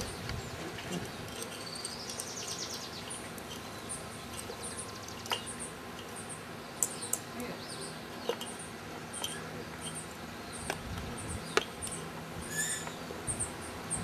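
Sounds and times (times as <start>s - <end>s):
bird trill: 1.2s - 14.0s.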